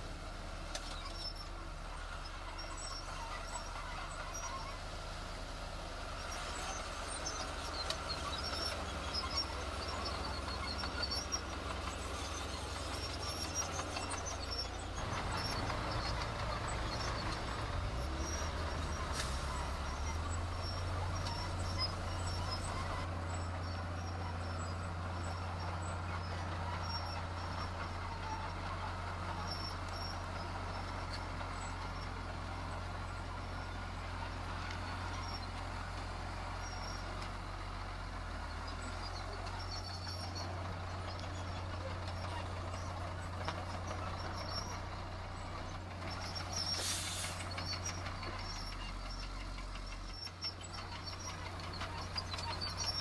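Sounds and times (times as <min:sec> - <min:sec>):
diesel engine droning: 0:00.0 - 0:53.0
faint high clicks and squeaks: 0:00.7 - 0:04.8, 0:06.2 - 0:53.0.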